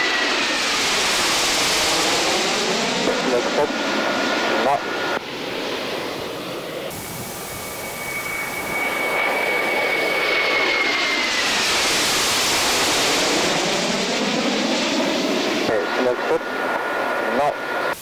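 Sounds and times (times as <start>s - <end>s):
high jet whine: 0.0s - 18.0s
jet roar: 0.0s - 18.0s.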